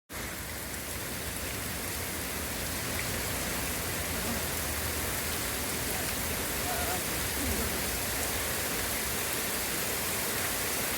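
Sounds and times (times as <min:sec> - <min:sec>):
steady rain falling: 0:00.1 - 0:10.9.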